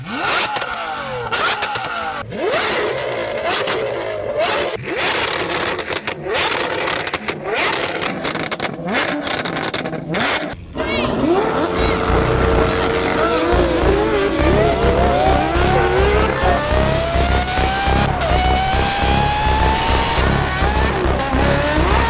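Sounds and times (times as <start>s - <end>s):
exhaust cracks: 0.0s - 22.0s
sports car engines revving: 0.0s - 22.0s.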